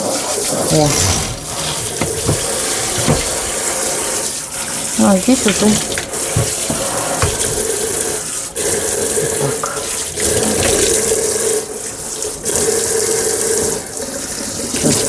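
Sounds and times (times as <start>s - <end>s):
tap water running into a sink: 0.0s - 15.0s.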